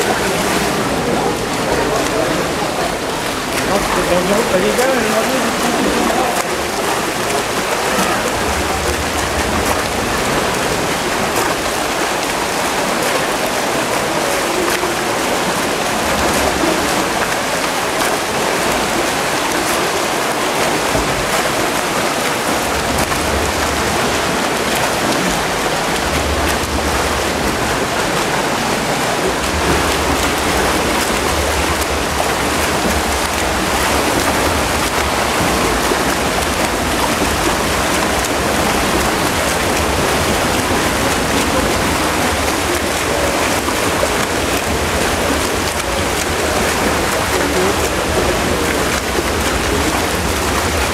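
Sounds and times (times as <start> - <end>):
swimmers splashing water: 0.0 - 50.9.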